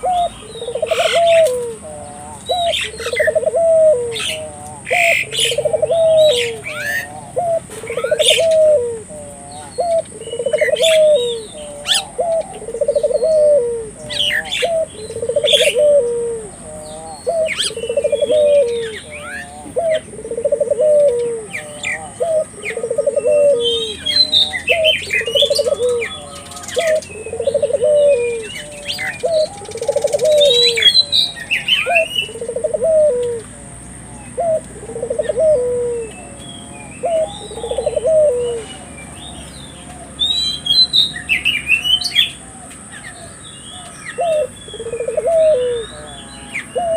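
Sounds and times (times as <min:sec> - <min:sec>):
dove cooing: 0:00.0 - 0:46.9
small birds chirping: 0:00.0 - 0:46.9.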